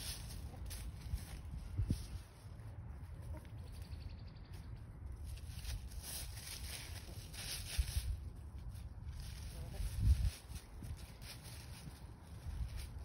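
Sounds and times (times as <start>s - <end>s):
chickens scratching dry leaves: 0.0s - 13.0s.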